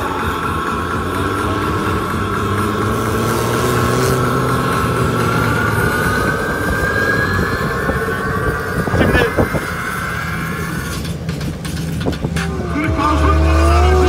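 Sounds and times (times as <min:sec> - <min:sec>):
drift car engines at high revs: 0:00.0 - 0:14.0.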